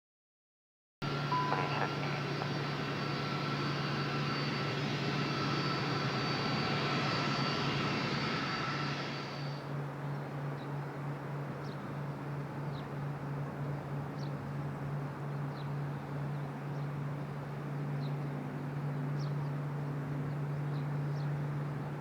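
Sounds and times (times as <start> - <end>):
distant jet engines droning: 1.0 - 22.0
outdoor noise: 1.0 - 22.0.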